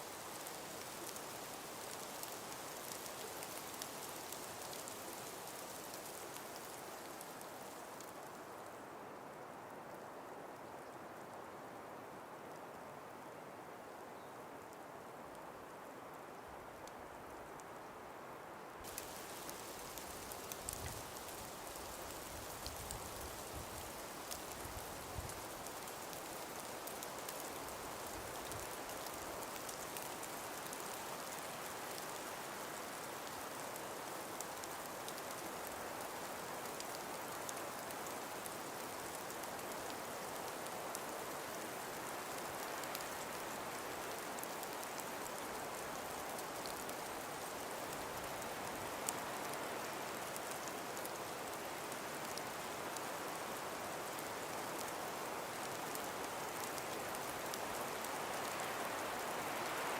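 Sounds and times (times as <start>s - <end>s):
faint tiny ticks: 0.0s - 8.8s, 18.8s - 59.9s
breeze through forest: 0.0s - 59.9s.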